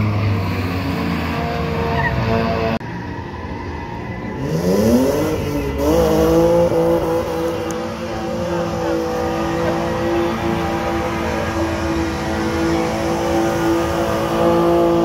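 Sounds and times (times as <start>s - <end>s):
car engine revving: 0.0s - 2.9s, 3.8s - 15.0s.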